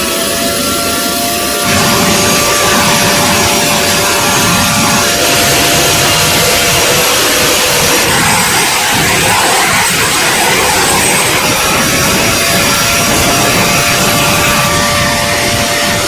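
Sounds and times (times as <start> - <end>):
jet engines whining and rushing: 0.0 - 16.0.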